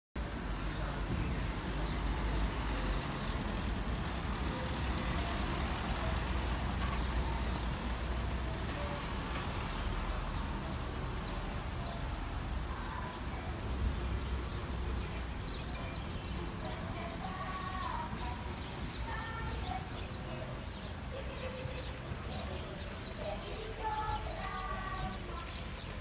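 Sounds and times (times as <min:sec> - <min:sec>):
vehicles driving past: 0:00.2 - 0:26.0.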